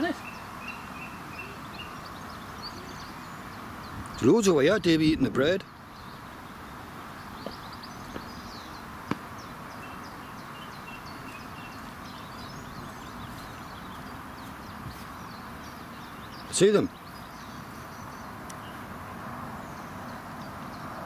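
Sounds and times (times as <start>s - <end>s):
small birds chirping: 0.0s - 21.0s
steady background hiss: 0.0s - 21.0s.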